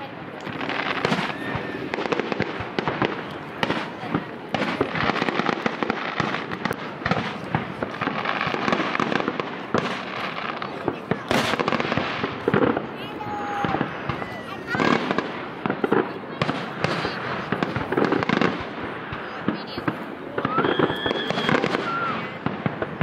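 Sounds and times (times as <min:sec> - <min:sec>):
aerial shell bursts and crackling: 0:00.0 - 0:23.0
sharp firework bangs: 0:00.3 - 0:23.0.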